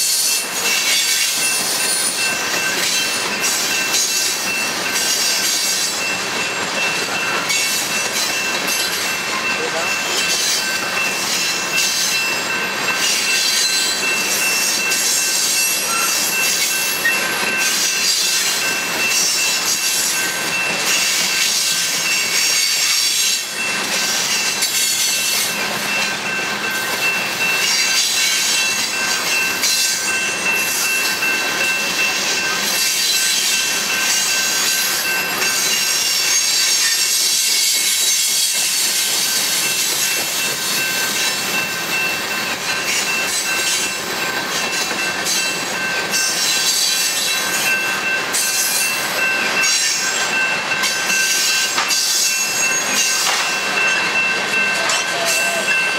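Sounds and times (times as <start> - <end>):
freight train clattering past: 0.0 - 55.9.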